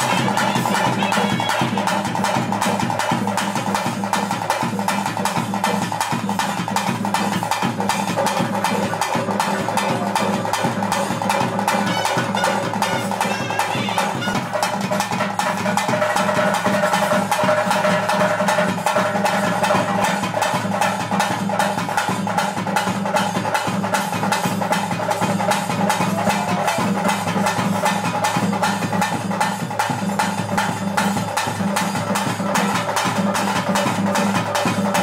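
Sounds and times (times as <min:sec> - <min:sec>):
fast steady drumming: 0:00.0 - 0:35.0.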